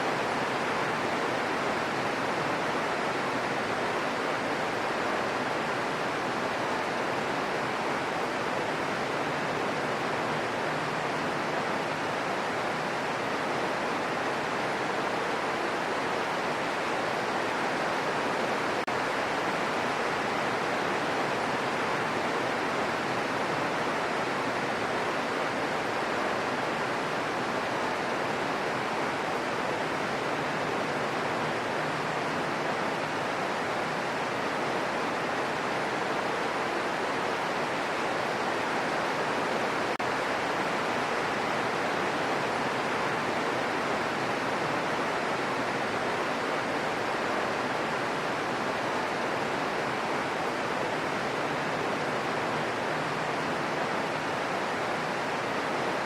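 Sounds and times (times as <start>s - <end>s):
gentle rain: 0.0s - 56.0s.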